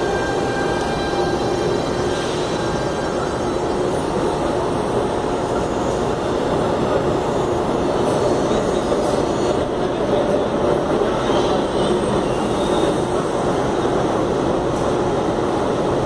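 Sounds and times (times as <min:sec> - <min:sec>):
electric train rumbling: 0:00.0 - 0:16.0
faint train hum: 0:00.0 - 0:16.0.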